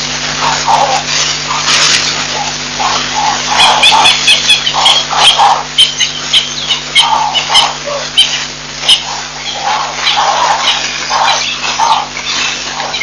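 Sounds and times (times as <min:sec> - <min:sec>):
electrical hum: 0:00.0 - 0:13.0
baboon vocalizations: 0:00.3 - 0:13.0.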